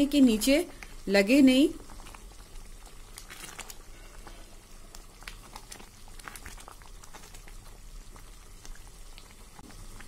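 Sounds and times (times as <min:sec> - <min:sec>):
thick mixture boiling with bubble pops: 0:00.0 - 0:10.0
spatula stirring: 0:01.2 - 0:10.0.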